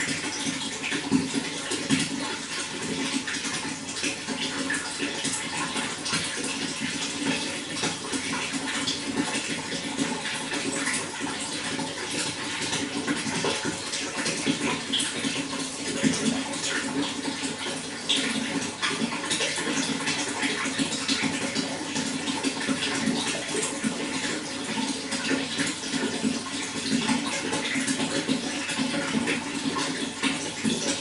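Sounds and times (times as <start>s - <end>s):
running water splashing: 0.0s - 31.0s.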